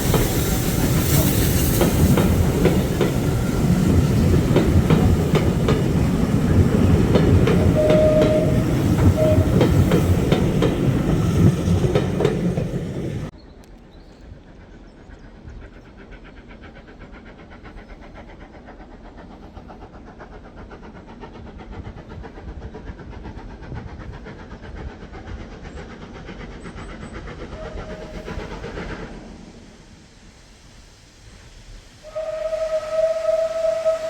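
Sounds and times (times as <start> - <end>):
train wheels rattling on rails: 0.0 - 13.3, 14.2 - 34.0.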